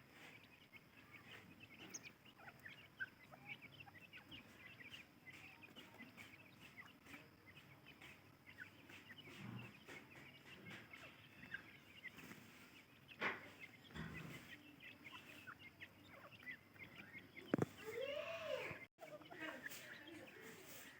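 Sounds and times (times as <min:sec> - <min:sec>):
chicks peeping: 0:00.0 - 0:20.9.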